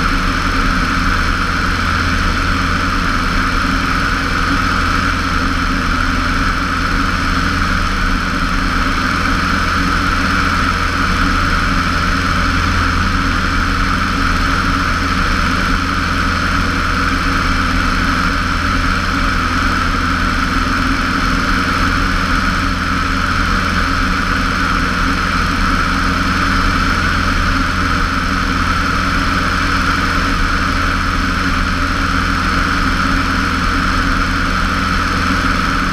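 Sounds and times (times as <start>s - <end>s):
light aircraft engine in flight: 0.0s - 35.9s.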